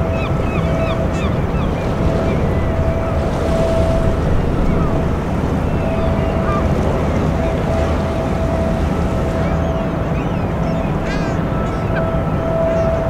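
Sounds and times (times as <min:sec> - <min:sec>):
ship engines rumbling: 0:00.0 - 0:13.0
wind on microphone: 0:00.0 - 0:13.0.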